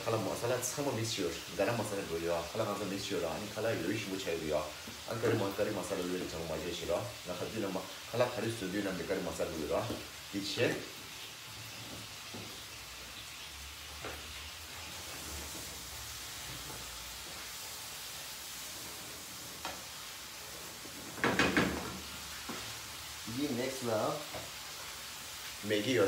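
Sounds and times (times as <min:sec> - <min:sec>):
sauce sizzling in a frying pan: 0:00.0 - 0:26.0.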